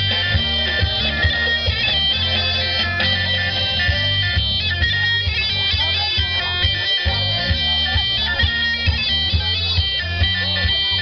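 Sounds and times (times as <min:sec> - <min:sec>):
pulsing bass beat: 0:00.0 - 0:11.0
reedy bagpipe-like melody: 0:00.0 - 0:11.0.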